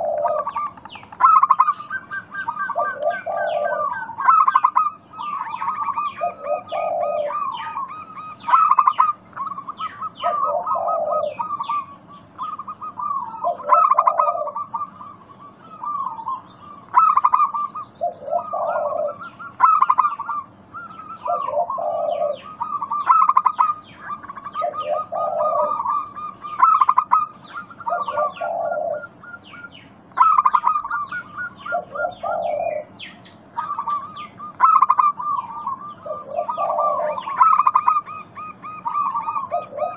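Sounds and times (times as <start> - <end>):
dove cooing: 0.0 - 39.9
rapid high trilling chirps: 0.0 - 39.9.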